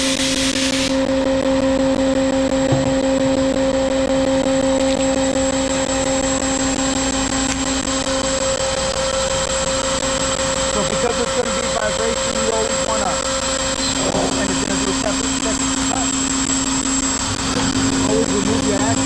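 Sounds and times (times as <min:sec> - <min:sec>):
router spindle whining: 0:00.0 - 0:19.0.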